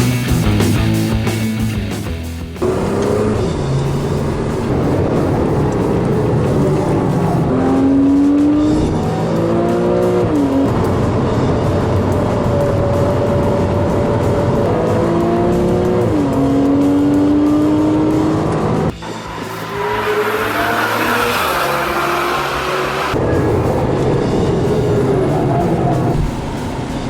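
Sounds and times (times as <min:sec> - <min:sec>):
race car engine accelerating: 0:00.2 - 0:27.0.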